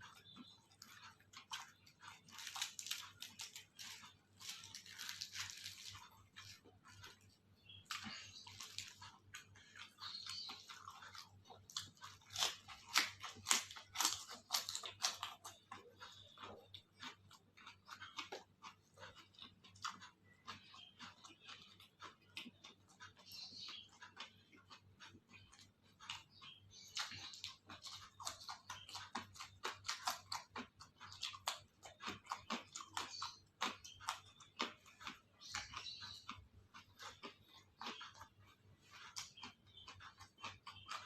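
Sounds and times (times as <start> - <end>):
chewing crunchy food: 0.0 - 41.0.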